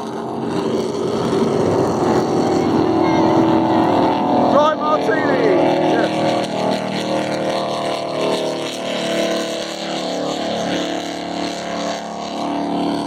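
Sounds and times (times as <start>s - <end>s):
motorboat engine running: 0.0s - 13.0s
water rushing: 0.0s - 13.0s
wind: 0.0s - 13.0s.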